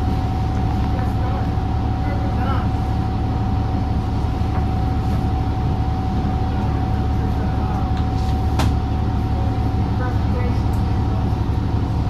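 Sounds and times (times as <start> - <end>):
bus interior rumble: 0.0 - 12.0.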